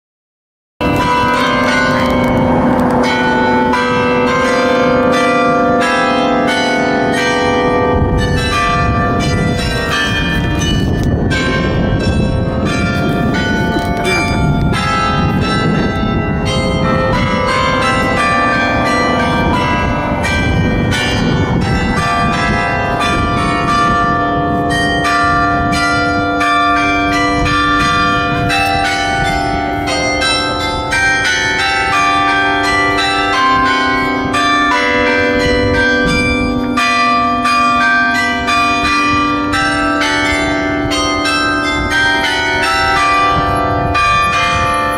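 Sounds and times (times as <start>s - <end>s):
tuned bells ringing: 0.8s - 44.9s.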